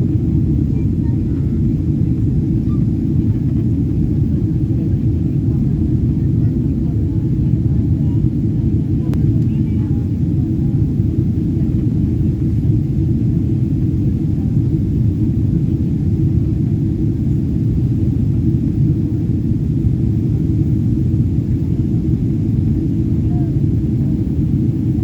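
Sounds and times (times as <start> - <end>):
jet airliner rumble: 0.0 - 25.0.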